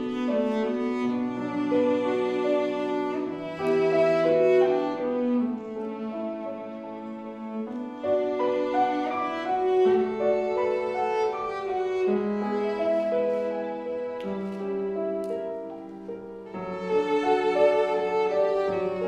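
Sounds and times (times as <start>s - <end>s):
cello slow melody: 0.0s - 19.0s
piano accompaniment: 0.0s - 19.0s.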